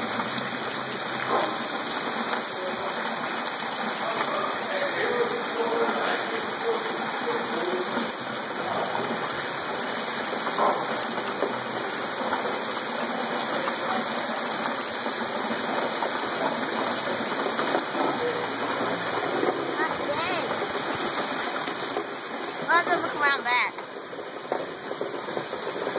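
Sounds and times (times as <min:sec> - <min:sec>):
heavy rain hiss: 0:00.0 - 0:25.9.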